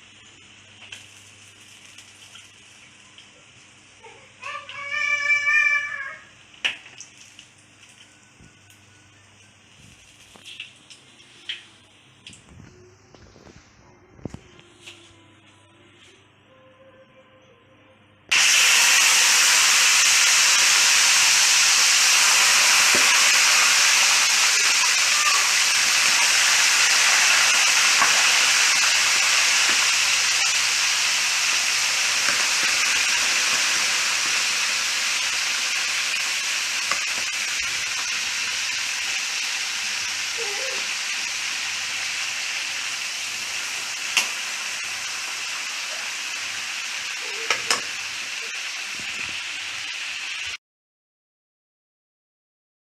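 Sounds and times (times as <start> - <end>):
food sizzling in hot oil: 0.0 - 8.7, 9.6 - 12.4, 18.3 - 50.6.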